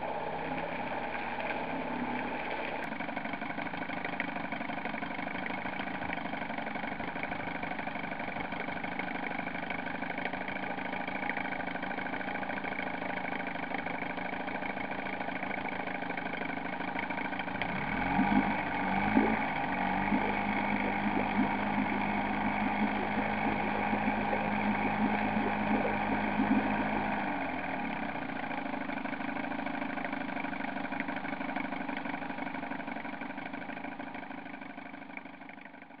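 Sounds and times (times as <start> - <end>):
outboard motor idling: 0.0 - 36.0.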